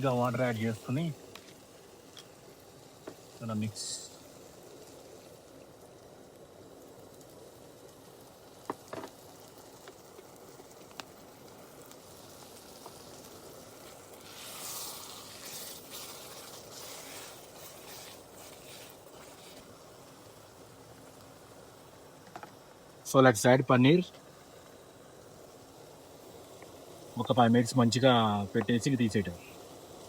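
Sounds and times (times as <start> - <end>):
curry simmering and sizzling in a pan: 0.0 - 30.0.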